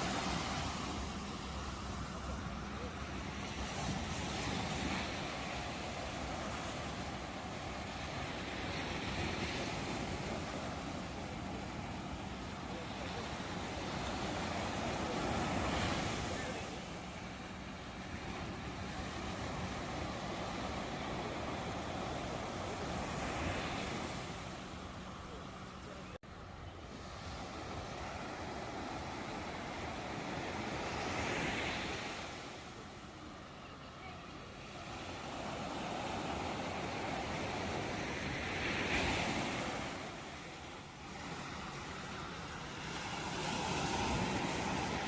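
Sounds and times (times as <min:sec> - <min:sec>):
ocean surf rushing: 0:00.0 - 0:45.0.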